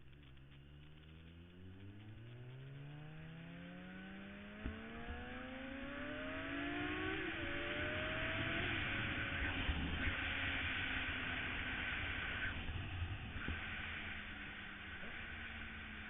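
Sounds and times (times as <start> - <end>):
motorcycle engine accelerating hard: 0.0 - 16.0.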